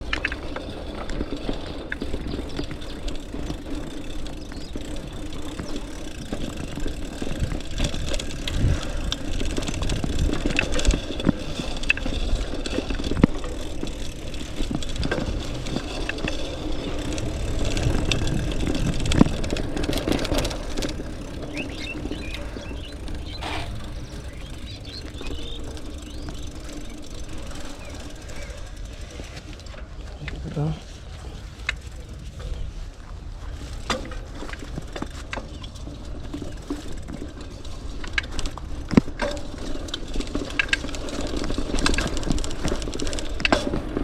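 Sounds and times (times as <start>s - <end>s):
bike rattling knocks and clicks: 0.0s - 30.8s, 33.4s - 44.0s
bike tyre rumble on dirt: 0.0s - 44.0s.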